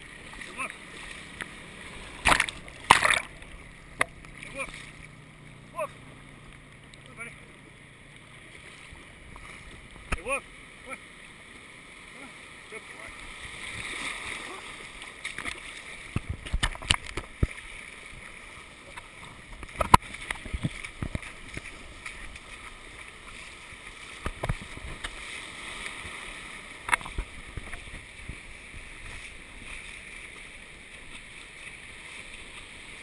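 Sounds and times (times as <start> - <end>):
shallow surf washing: 0.0 - 33.0
water splashes: 0.0 - 33.0.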